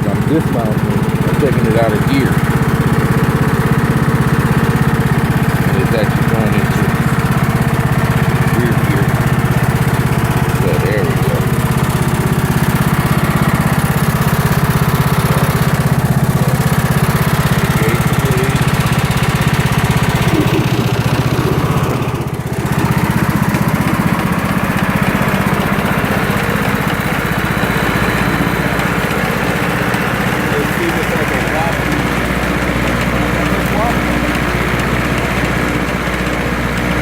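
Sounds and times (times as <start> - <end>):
lawn tractor engine running: 0.0 - 37.0.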